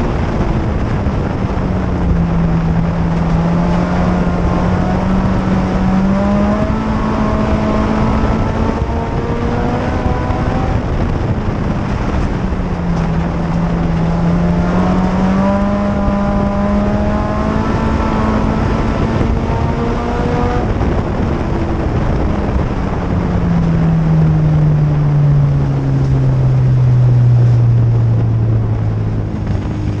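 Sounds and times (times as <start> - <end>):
car engine running: 0.0 - 30.0
tyre and road noise: 0.0 - 30.0.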